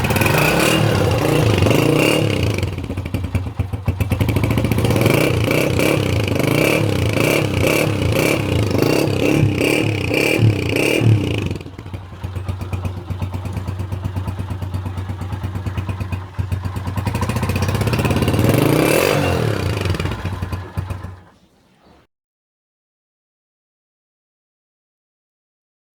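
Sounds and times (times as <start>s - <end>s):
motorcycle engine revving: 0.0s - 21.4s.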